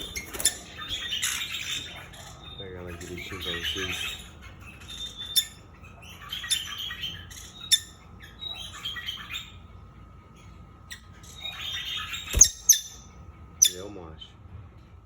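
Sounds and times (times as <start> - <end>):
bird chirping and squawking: 0.0 - 13.9.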